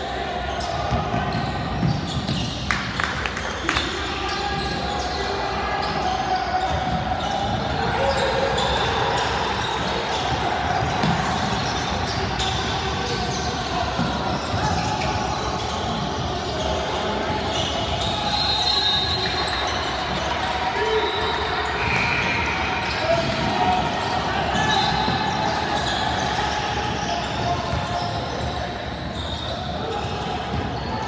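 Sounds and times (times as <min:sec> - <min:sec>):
indistinct talk echoing: 0:00.0 - 0:31.0.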